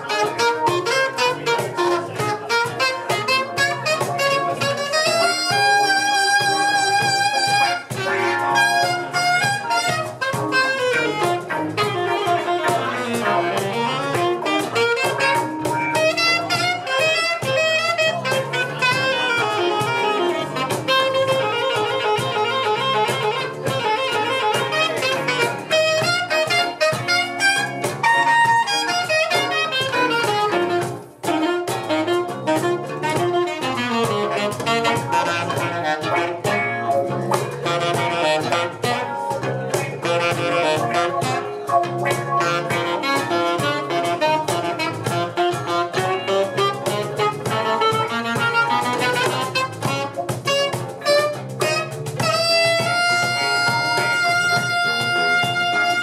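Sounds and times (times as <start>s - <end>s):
drum beat: 0.0s - 56.0s
electric bass: 0.0s - 56.0s
electric guitar: 0.0s - 56.0s
lead instrument solo: 0.0s - 56.0s.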